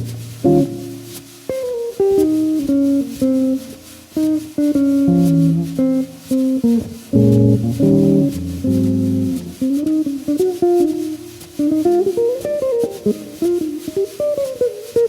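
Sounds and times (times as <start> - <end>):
jazz trio playing: 0.0 - 14.5.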